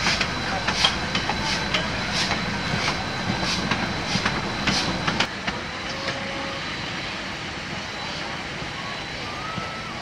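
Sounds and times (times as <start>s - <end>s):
steam train running: 0.0s - 10.0s.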